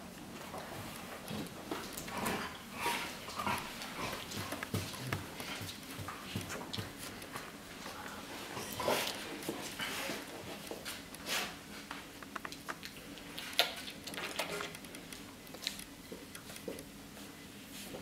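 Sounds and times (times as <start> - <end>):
dogs licking and nuzzling: 0.2 - 16.8.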